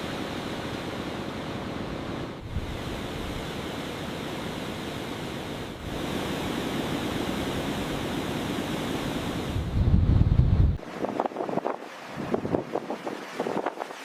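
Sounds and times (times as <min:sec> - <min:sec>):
wind and sea rushing: 0:00.0 - 0:14.0.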